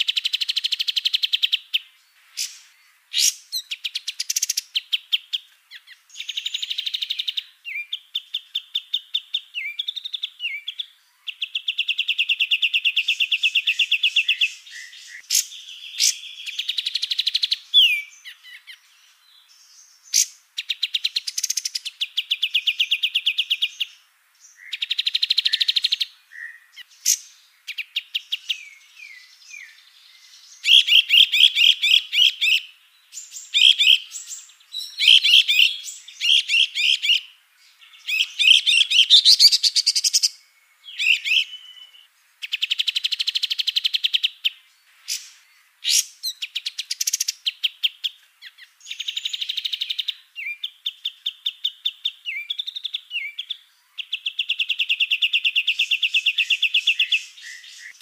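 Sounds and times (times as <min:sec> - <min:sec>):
songbirds chattering and trilling: 0:00.0 - 0:58.0.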